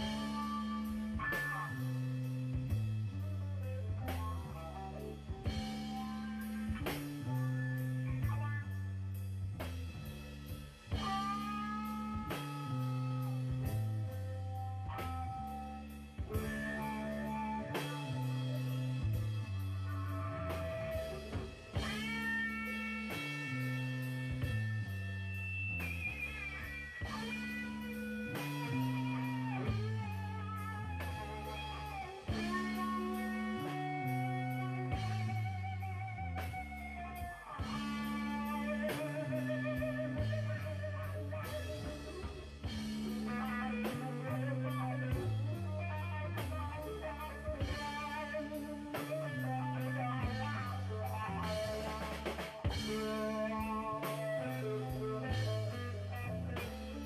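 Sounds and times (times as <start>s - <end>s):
blues guitar with bass and drums: 0.0s - 57.0s.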